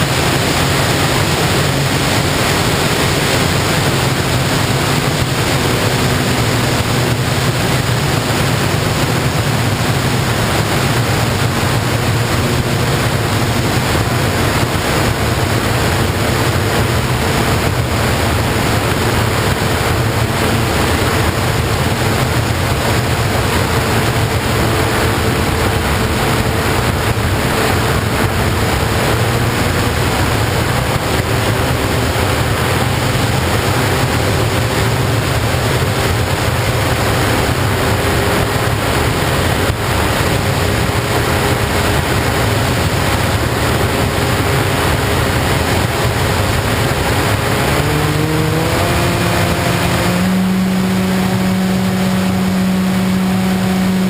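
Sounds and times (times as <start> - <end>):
faint electric motor drone: 0.0 - 54.0
wind rush over microphone: 0.0 - 54.0.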